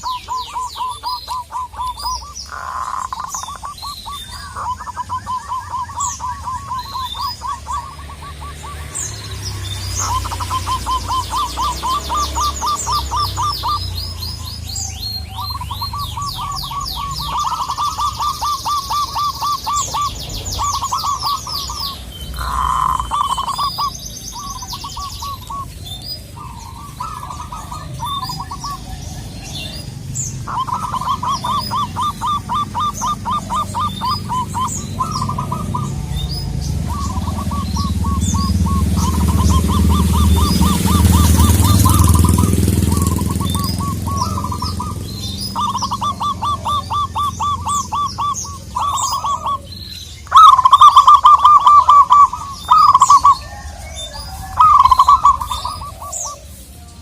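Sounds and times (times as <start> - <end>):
bird trills: 0.0 - 57.0
doves cooing: 0.0 - 57.0.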